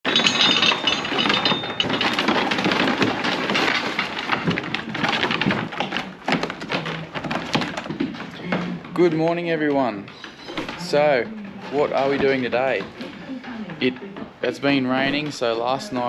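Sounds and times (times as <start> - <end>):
hooves knocking on pen rails: 0.0 - 16.0
sheep hooves clattering on wood: 0.1 - 16.0.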